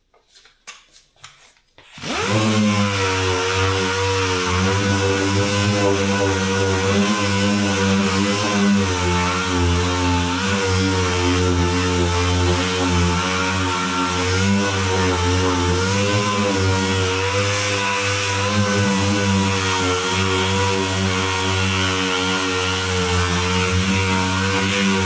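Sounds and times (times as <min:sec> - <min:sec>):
motor running: 0:02.0 - 0:25.0.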